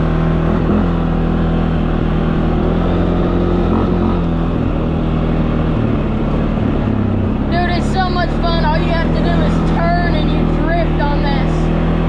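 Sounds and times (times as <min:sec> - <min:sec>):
vehicle engine running steadily: 0:00.0 - 0:12.0.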